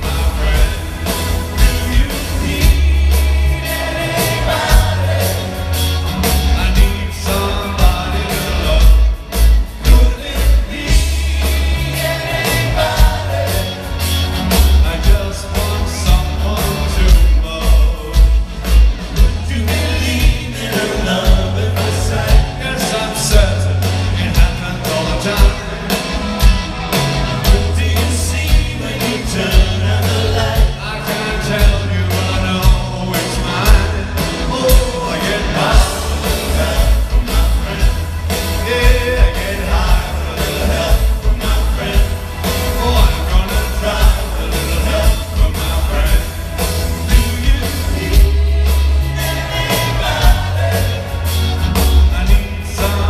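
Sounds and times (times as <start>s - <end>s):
live rock band with singer: 0.0s - 53.0s.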